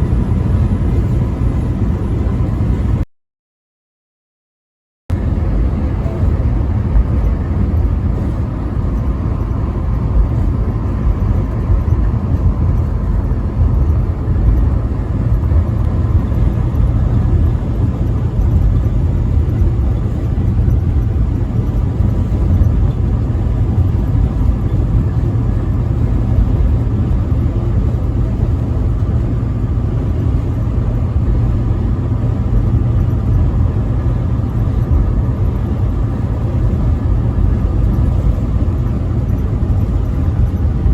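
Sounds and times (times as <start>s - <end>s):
truck driving on highway: 0.0s - 3.1s, 5.1s - 40.9s.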